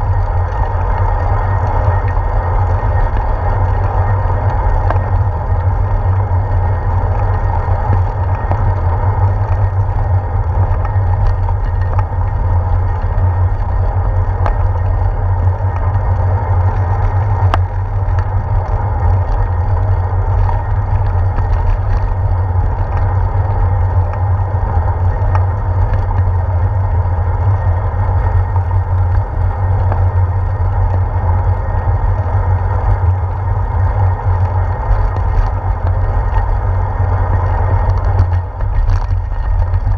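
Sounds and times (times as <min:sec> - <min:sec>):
bicycle rolling on pavement: 0:00.0 - 0:39.9.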